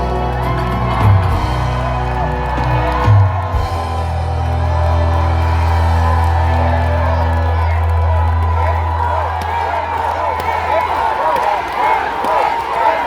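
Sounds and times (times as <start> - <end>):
stage music with bass: 0.0 - 10.8
crowd cheering and whooping: 0.0 - 13.0.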